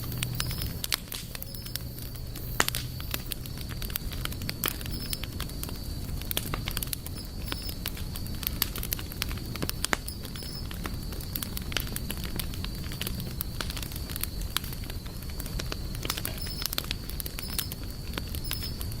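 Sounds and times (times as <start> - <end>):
campfire crackling and popping: 0.0 - 19.0
low rumble of burning fire: 0.0 - 19.0.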